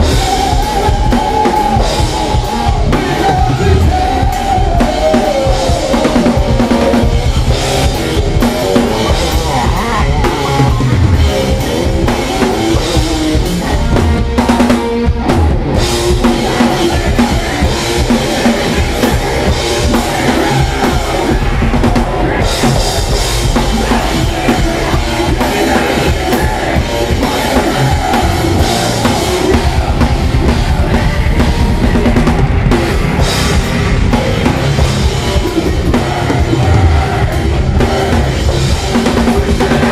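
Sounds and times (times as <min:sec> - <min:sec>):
bass drum: 0:00.0 - 0:39.9
live rock band: 0:00.0 - 0:39.9.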